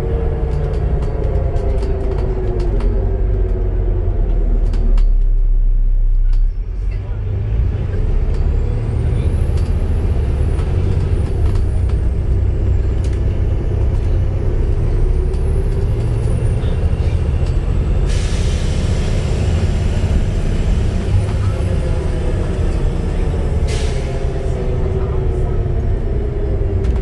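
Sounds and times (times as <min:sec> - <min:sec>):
bus engine rumble: 0:00.0 - 0:27.0.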